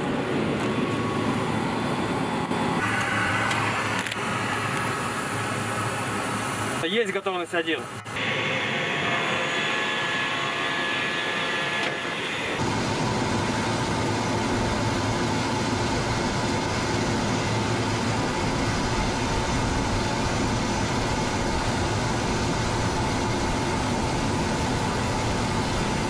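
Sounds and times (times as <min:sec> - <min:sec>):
power unit running with hum: 0:00.0 - 0:26.0.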